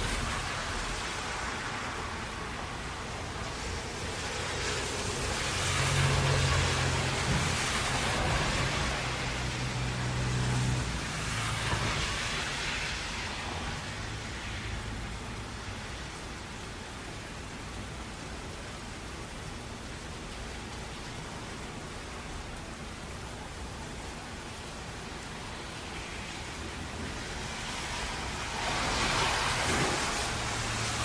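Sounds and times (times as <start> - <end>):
vehicle passing on wet road: 0.0 - 23.3, 24.2 - 31.0
heavy rain hiss: 0.0 - 31.0.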